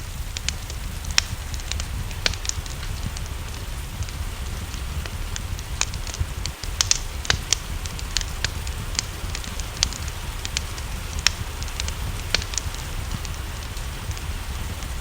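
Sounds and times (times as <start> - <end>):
low rumble: 0.0 - 15.0
rain hiss: 0.0 - 15.0
wood fire crackling: 0.0 - 15.0.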